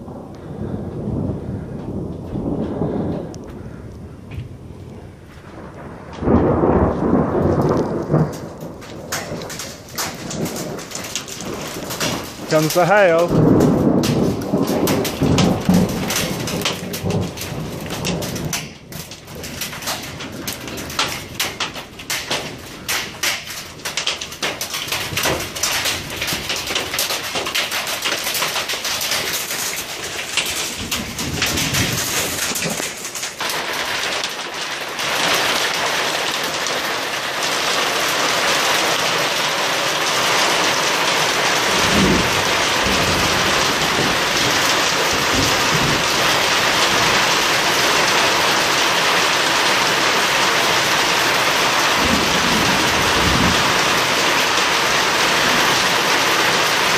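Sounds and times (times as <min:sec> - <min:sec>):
rain pattering: 0:00.0 - 0:56.9
thunder rumbling: 0:00.0 - 0:56.9.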